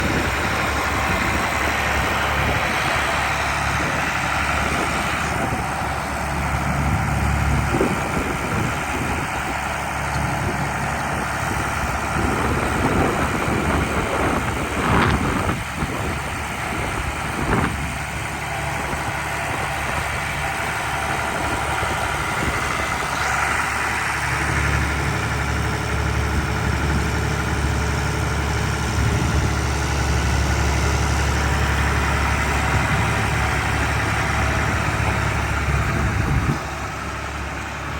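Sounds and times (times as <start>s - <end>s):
tractor engine idling: 0.0s - 37.9s.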